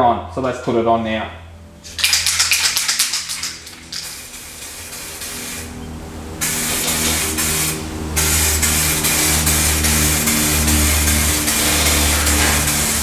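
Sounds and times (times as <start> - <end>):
spray can rattling: 1.8 - 5.7, 6.4 - 13.0
spray can hissing: 1.9 - 5.8, 6.4 - 13.0.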